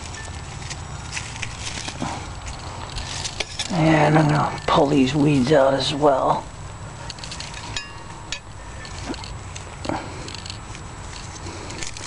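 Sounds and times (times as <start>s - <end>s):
rustling foliage: 0.0s - 12.0s.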